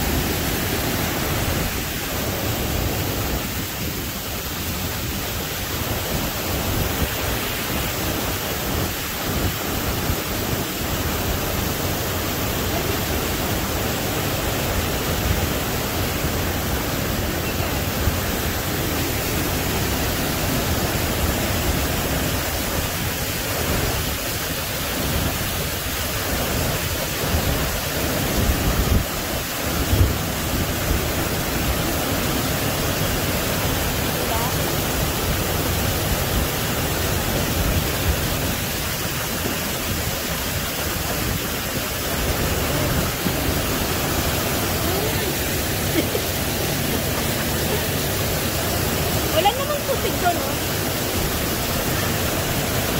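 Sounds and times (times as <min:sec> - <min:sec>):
water rushing over rocks: 0:00.0 - 0:52.9.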